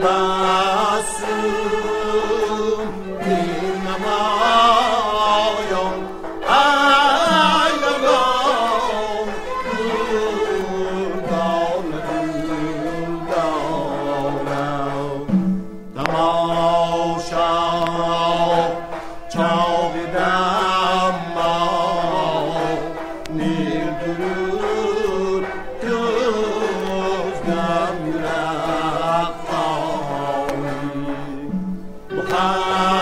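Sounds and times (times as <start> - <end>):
low instrumental accompaniment: 0.0 - 33.0
ornamented sung melody: 0.0 - 33.0.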